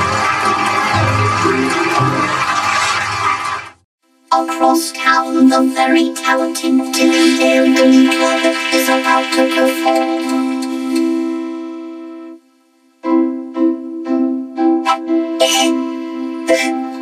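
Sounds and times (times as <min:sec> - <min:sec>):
vocoded synthesizer-like chord: 0:00.0 - 0:03.3, 0:04.4 - 0:17.0.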